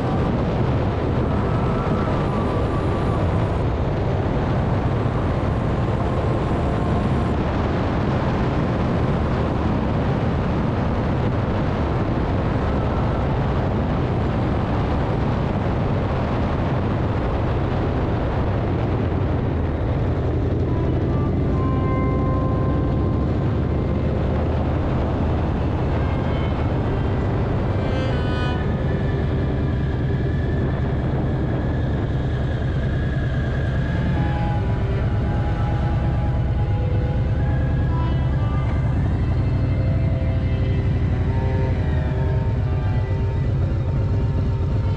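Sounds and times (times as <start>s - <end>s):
motorcycle engine drone: 0.0s - 44.9s
road and wind noise: 0.0s - 44.9s.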